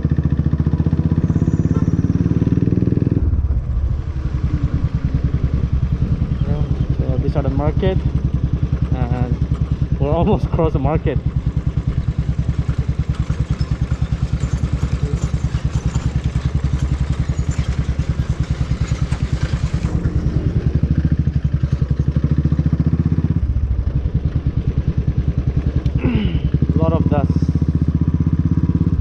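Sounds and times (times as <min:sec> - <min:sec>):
motorcycle engine running: 0:00.0 - 0:29.0
rattling over bumpy road: 0:00.0 - 0:29.0.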